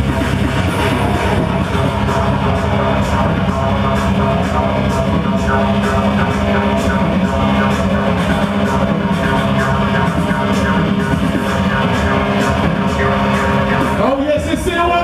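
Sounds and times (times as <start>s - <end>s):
electronic dance music: 0.0s - 15.0s
held bass tones: 0.0s - 15.0s.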